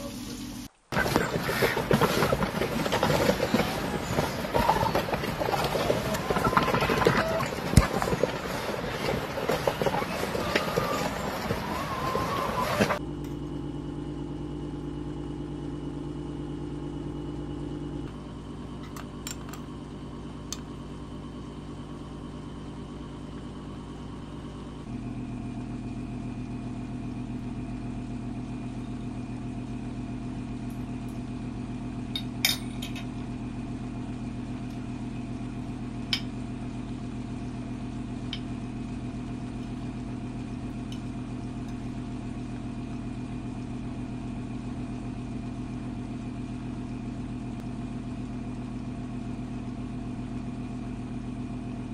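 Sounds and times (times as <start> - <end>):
steady machine hum: 0.0 - 51.9.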